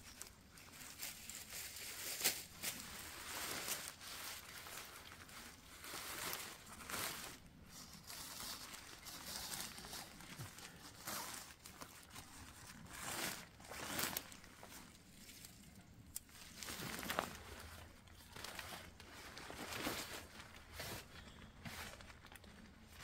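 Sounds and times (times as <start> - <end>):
tent fabric rustling: 0.0 - 15.5, 16.3 - 23.0.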